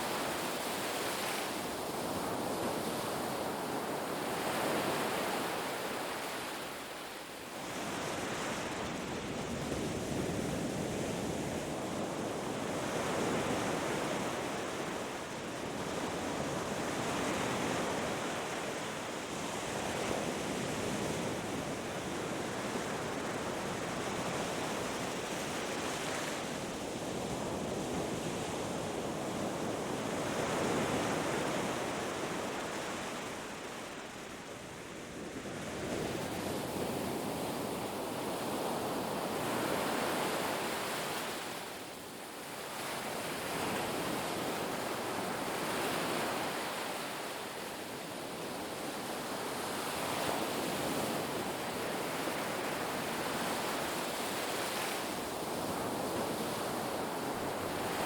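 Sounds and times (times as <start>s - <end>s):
surf breaking on a beach: 0.0s - 58.0s.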